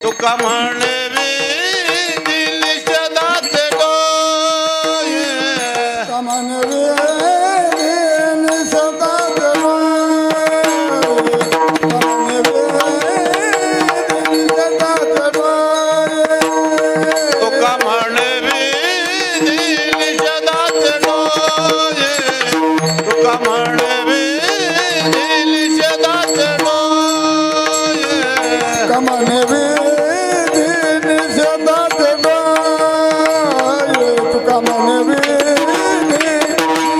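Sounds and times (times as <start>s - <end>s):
man singing devotional melody: 0.0s - 36.9s
tabla strokes: 0.0s - 36.9s.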